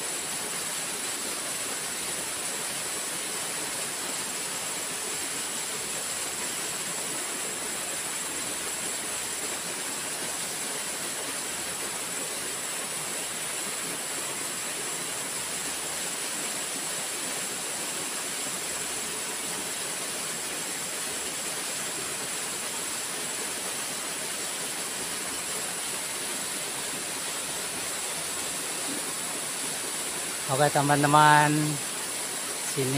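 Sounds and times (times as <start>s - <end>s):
river water rushing: 0.0s - 32.9s.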